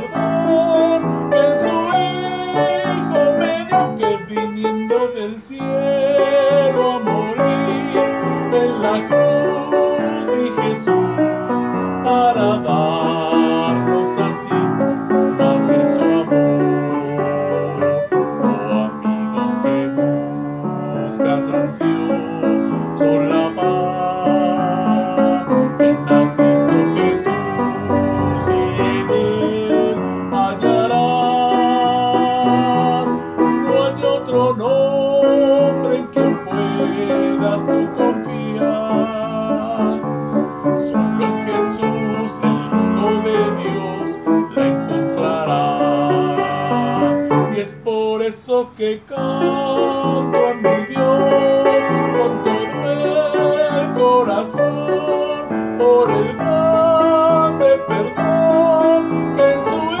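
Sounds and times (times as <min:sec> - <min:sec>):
digital piano melody: 0:00.0 - 0:47.6, 0:49.2 - 1:00.0.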